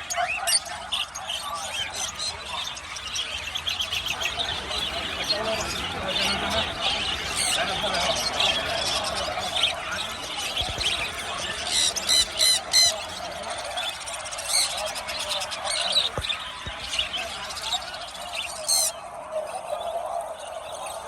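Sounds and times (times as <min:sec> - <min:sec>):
birds squawking: 0:00.0 - 0:19.1.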